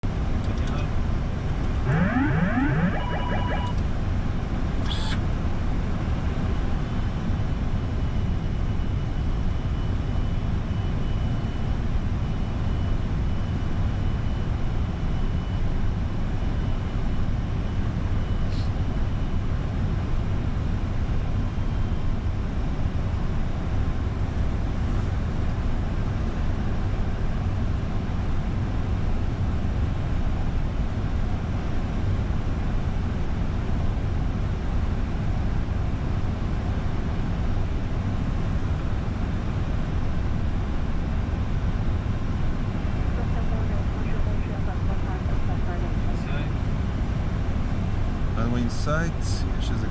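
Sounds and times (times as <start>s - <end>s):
airflow and engines rumbling: 0.0s - 49.9s.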